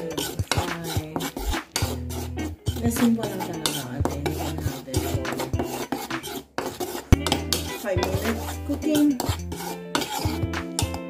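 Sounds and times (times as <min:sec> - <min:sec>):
spoon scraping and clinking bowl: 0:00.0 - 0:11.0.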